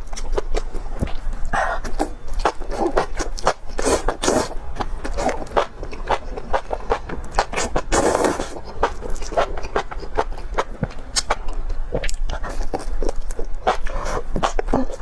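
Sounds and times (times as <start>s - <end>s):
chewing and lip smacking: 0.0s - 15.0s.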